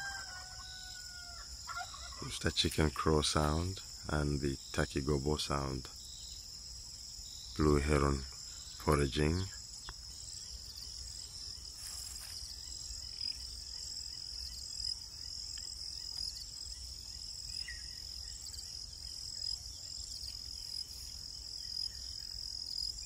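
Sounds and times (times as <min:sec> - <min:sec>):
crickets and insects chirring: 0:00.0 - 0:23.0.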